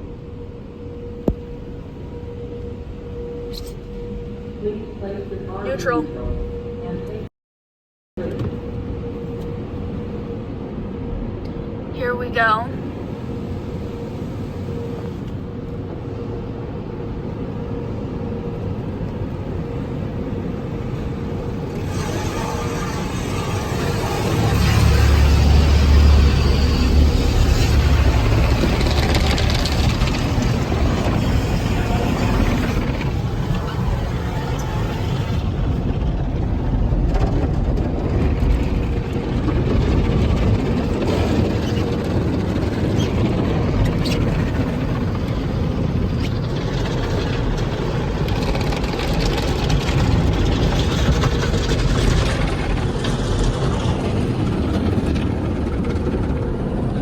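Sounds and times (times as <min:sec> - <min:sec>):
low rumble: 0:08.2 - 0:57.0.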